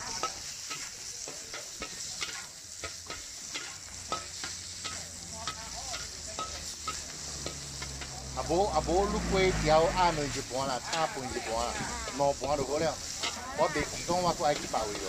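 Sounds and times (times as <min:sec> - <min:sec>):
hot oil sizzling in a wok: 0:00.0 - 0:15.0
metal spatula scraping a wok: 0:00.0 - 0:15.0.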